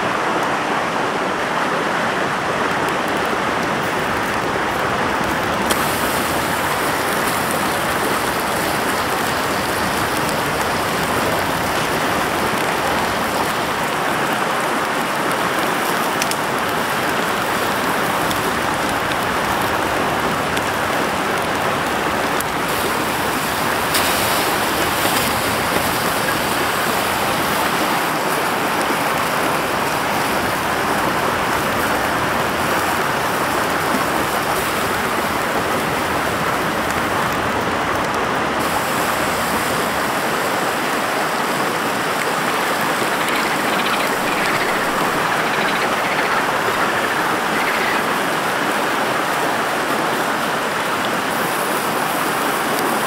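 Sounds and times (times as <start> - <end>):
forest stream rushing: 0.0 - 53.0.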